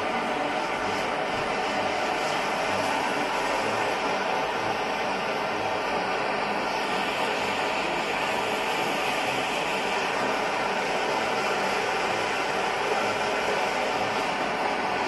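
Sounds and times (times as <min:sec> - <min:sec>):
stove burner hissing: 0:00.0 - 0:15.0.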